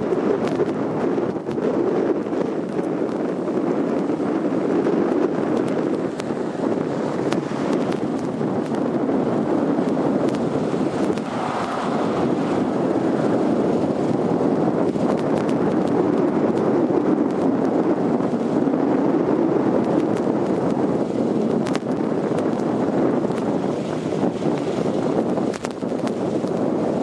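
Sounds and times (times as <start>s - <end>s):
gusty wind buffeting microphone: 0.0s - 27.0s.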